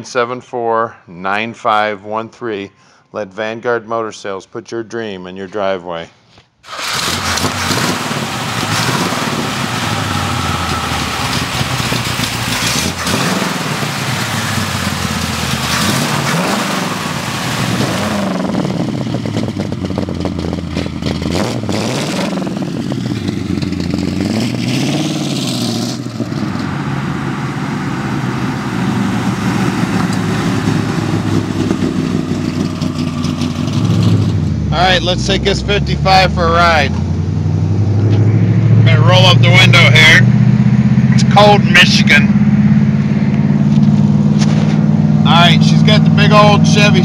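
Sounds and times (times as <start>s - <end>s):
engine revving and idling: 6.7s - 47.0s.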